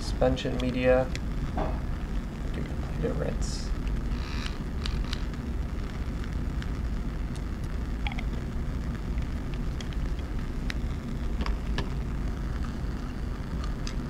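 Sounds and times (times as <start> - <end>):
low room noise rumble: 0.0 - 14.0.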